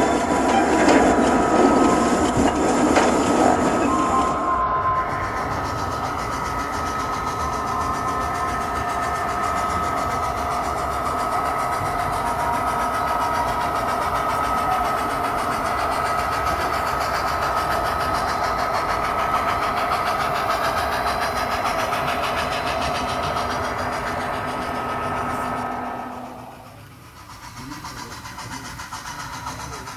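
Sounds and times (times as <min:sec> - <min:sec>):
model train drone and whine: 0:00.0 - 0:29.9.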